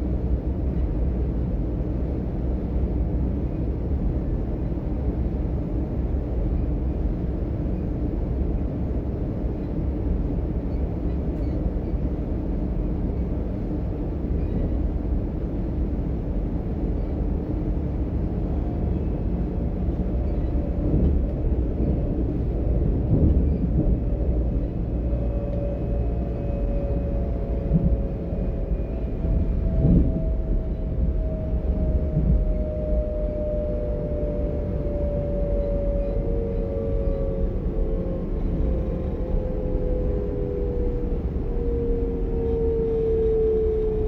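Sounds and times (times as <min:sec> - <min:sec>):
train wheels rumbling on track: 0:00.0 - 0:44.0.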